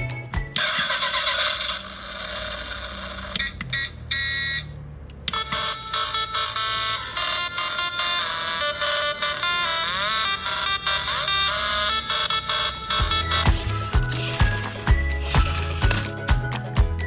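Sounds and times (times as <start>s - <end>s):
toy engine rumble: 0.6s - 3.6s, 5.1s - 16.8s
beeping alarm tones: 1.7s - 16.1s.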